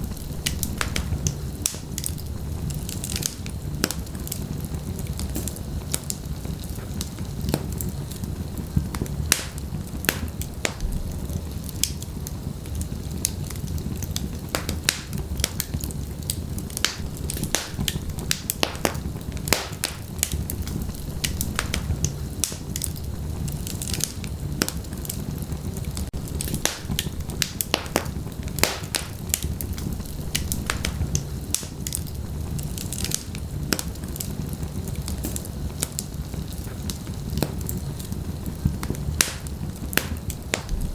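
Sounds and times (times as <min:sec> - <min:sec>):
flames rumbling: 0:00.0 - 0:40.9
logs crackling and popping: 0:00.0 - 0:40.9.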